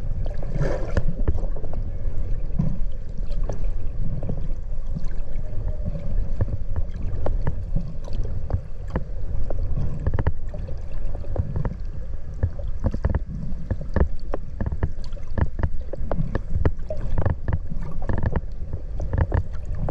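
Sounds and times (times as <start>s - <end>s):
low rumble of moving water: 0.0s - 19.9s
sharp underwater clicks and crackles: 0.0s - 19.9s.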